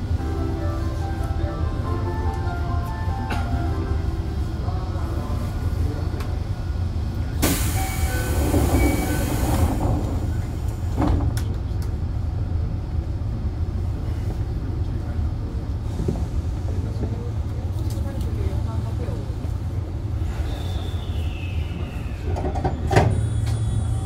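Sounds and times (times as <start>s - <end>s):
subway car low rumble: 0.0s - 24.0s.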